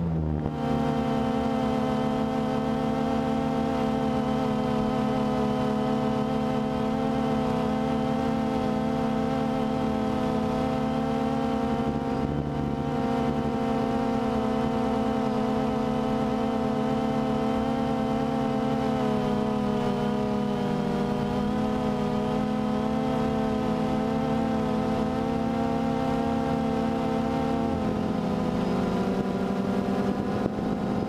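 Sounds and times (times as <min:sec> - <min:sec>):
drone propellers humming: 0:00.0 - 0:31.0.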